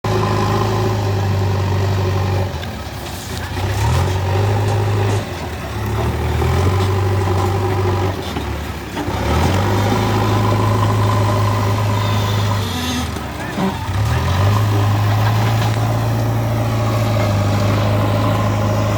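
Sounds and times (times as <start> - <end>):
diesel engine under load: 0.0 - 18.9.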